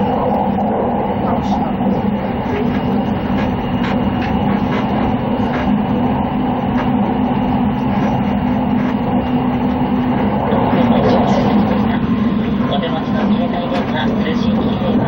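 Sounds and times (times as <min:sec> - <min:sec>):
train interior drone: 0:00.0 - 0:15.0.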